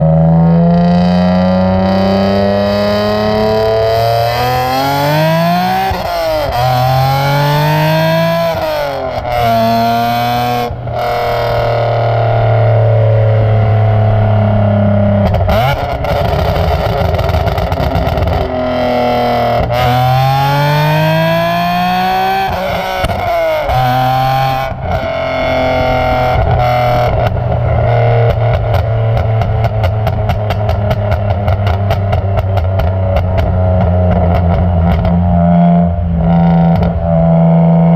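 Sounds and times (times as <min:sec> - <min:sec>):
car exhaust accelerating through gears: 0:00.0 - 0:37.9
exhaust crackle: 0:02.6 - 0:37.4.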